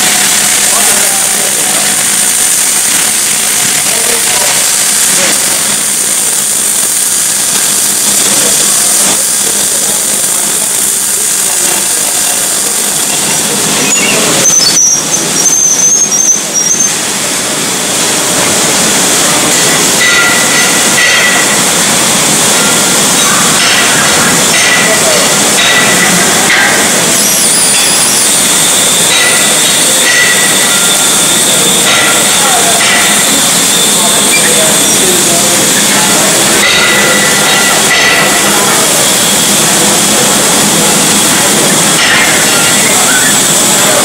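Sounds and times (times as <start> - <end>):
arc welding crackling hiss: 0.0 - 44.0
high whine: 0.0 - 44.0.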